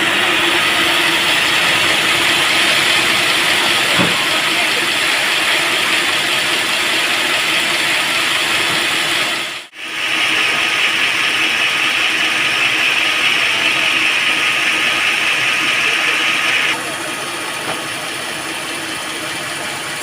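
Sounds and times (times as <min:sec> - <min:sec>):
band saw cutting wood: 0:00.0 - 0:20.0.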